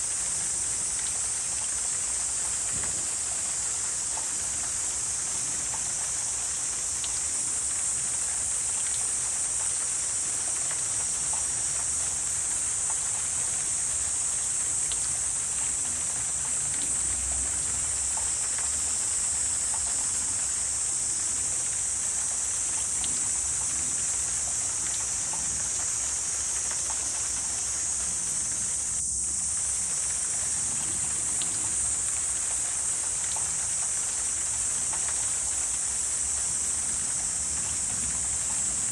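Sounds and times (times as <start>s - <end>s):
high-pitched insect chorus: 0.0s - 38.9s
faint ticks: 4.0s - 38.9s.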